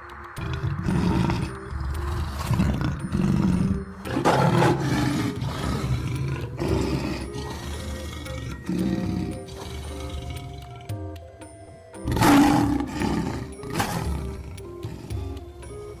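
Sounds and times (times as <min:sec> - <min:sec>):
lion roaring: 0:00.4 - 0:11.0, 0:12.0 - 0:16.0.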